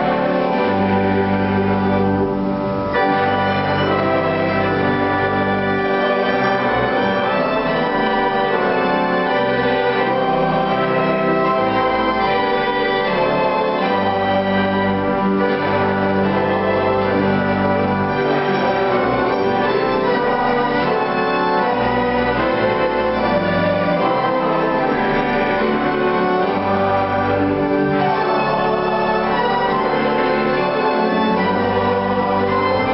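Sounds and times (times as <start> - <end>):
upright piano: 0.0 - 32.9
violin: 0.0 - 32.9.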